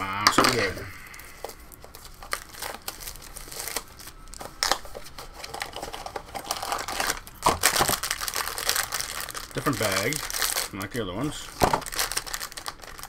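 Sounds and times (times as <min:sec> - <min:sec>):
packaging crinkling and rustling: 0:00.3 - 0:13.0.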